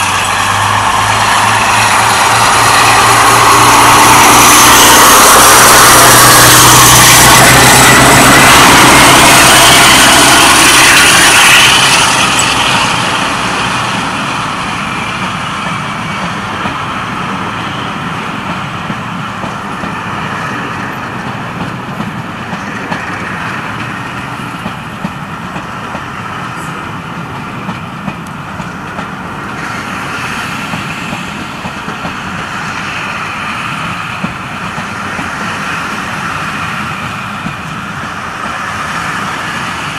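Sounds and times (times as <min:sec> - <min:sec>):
coaches rolling on rails: 0:00.0 - 0:39.9
diesel locomotive passing: 0:00.0 - 0:39.9.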